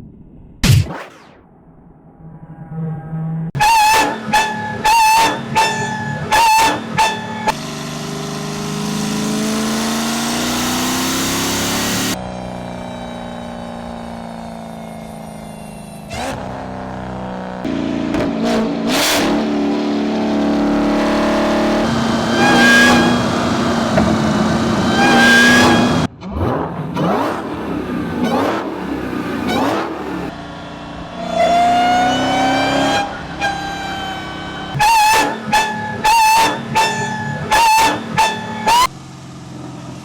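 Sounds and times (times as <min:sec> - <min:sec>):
engine throttle blips: 0:00.6 - 0:40.0
car engine revving: 0:02.2 - 0:40.0.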